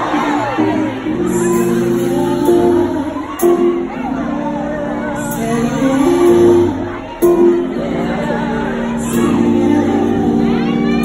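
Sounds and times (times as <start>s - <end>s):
keyboard chords: 0.0s - 11.0s
woman singing: 0.8s - 11.0s.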